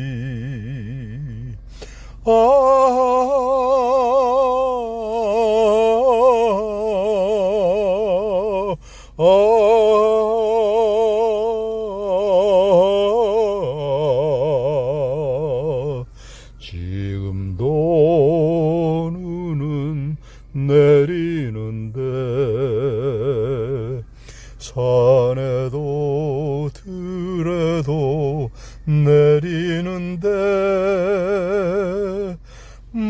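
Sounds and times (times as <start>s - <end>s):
man singing slow song: 0.0s - 33.0s.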